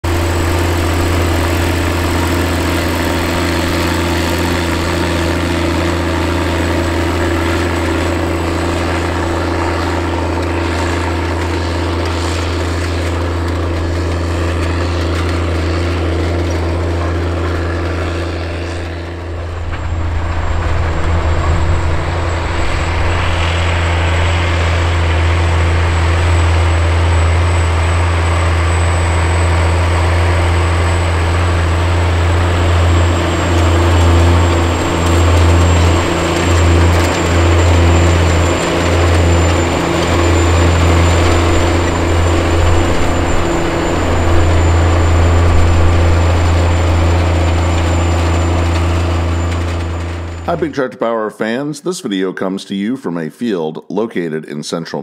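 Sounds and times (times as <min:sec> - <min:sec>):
tractor diesel engine droning: 0:00.0 - 0:51.6.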